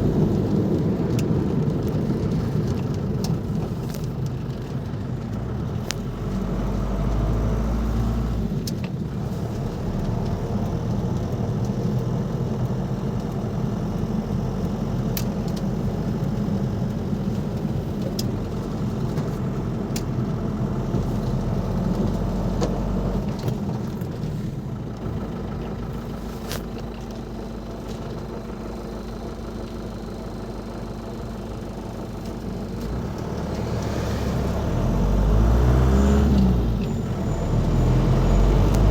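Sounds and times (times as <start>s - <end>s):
diesel van engine running: 0.0s - 38.9s.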